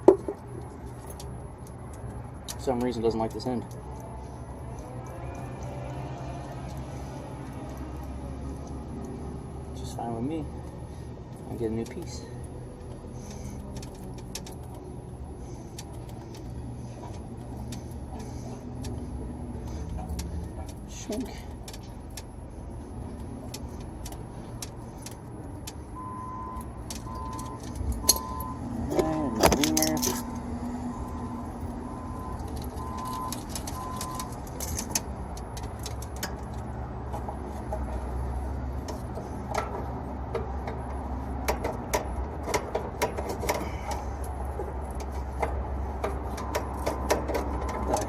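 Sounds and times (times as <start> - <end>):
metal clicks of tools and tubing: 0.0 - 48.0.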